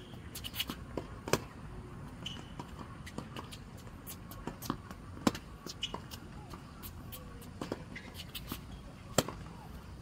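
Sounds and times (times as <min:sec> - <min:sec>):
tennis racket hitting ball: 0:00.3 - 0:01.6, 0:02.2 - 0:09.5.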